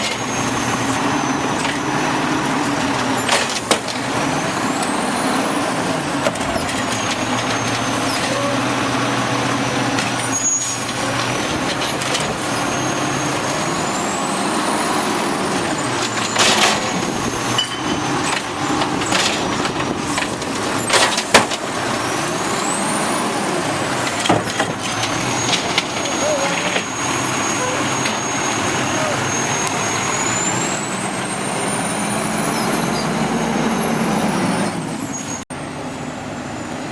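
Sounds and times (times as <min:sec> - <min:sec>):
garbage truck engine running: 0:00.0 - 0:36.9.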